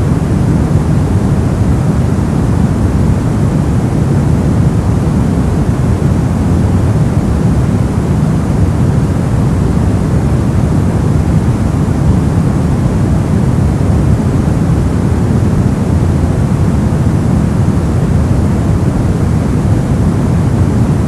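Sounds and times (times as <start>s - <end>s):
deep rumbling brown noise: 0.0s - 21.0s.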